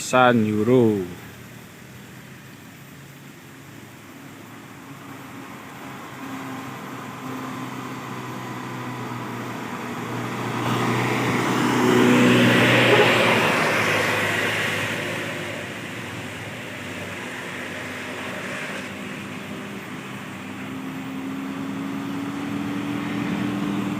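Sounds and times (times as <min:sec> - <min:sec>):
truck diesel engine climbing: 0:00.0 - 0:23.9.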